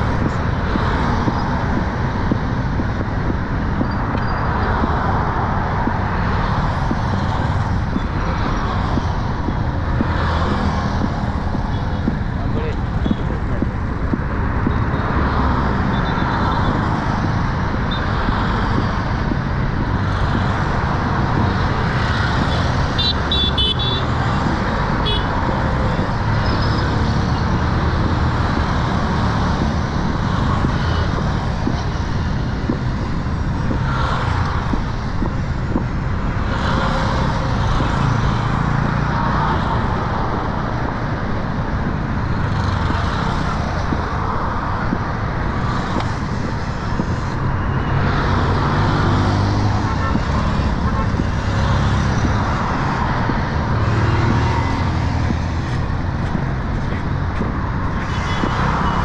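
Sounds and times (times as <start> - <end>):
traffic passing: 0.0 - 59.0.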